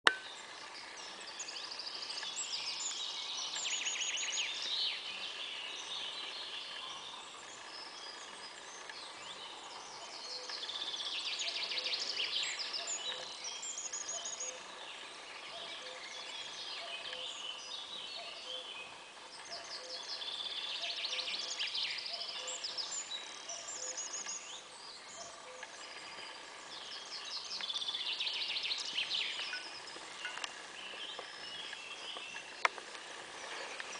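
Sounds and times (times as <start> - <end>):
songbird trilling: 0.1 - 32.7
birds chirping: 0.1 - 33.9
steady background hiss: 0.1 - 33.9.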